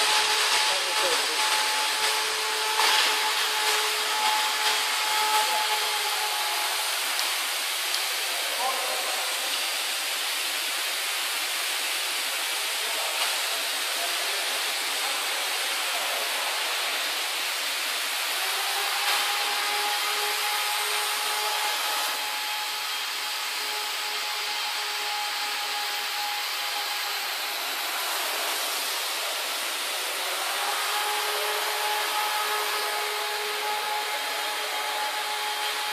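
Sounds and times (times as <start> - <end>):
machinery hiss: 0.0 - 35.9.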